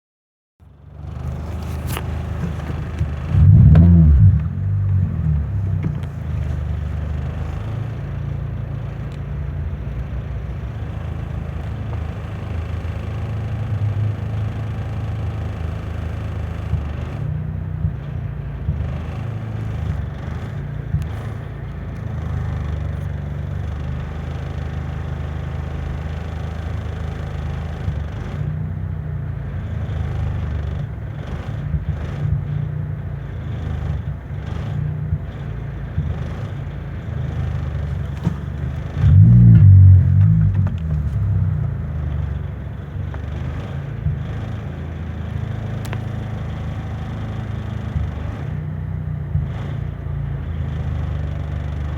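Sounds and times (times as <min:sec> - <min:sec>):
car engine misfiring: 0:00.9 - 0:51.8.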